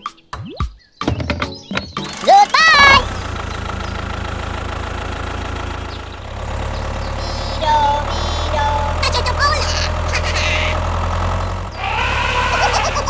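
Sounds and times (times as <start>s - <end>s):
diesel tractor engine knocking: 1.2s - 13.0s.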